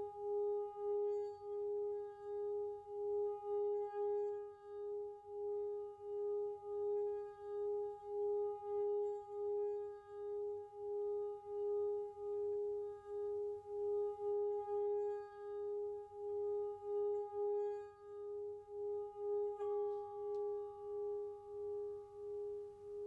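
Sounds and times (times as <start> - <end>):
singing bowl ringing: 0.0 - 23.0.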